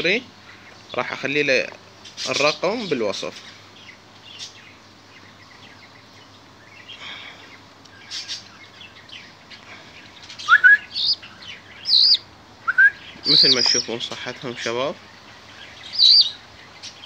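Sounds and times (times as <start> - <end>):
bird chicks begging chirps: 0.0 - 17.0.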